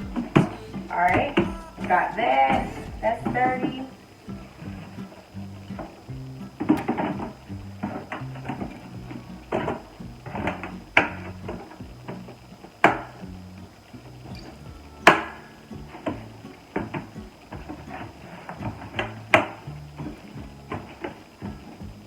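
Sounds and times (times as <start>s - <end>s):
background music with bass: 0.0s - 22.0s.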